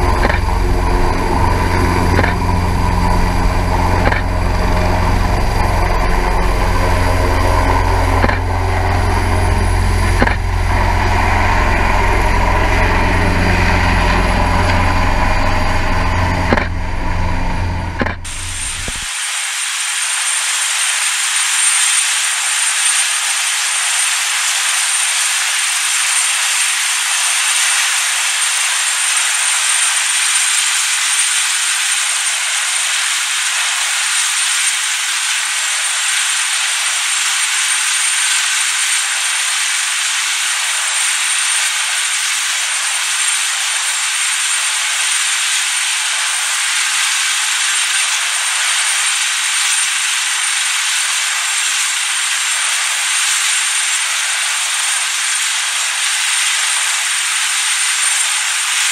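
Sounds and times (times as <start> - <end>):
helicopter turbine and rotor noise: 0.0 - 58.9
high-pitched turbine whine: 0.0 - 58.9.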